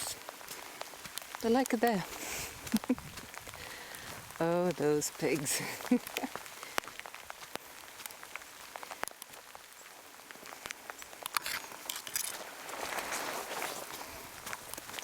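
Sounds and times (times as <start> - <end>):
heavy rain: 0.0 - 15.0
raindrops ticking near microphone: 0.0 - 15.0.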